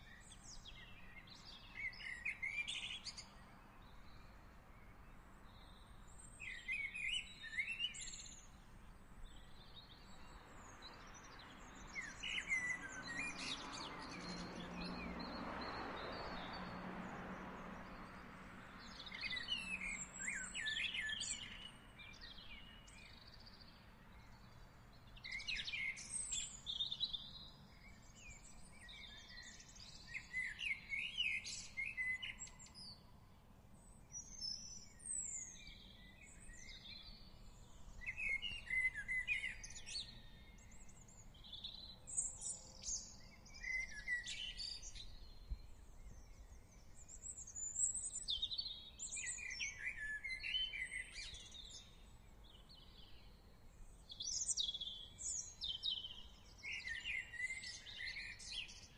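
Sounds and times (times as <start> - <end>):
faint low background noise: 0.0 - 58.9
songbirds chirping: 0.0 - 58.9.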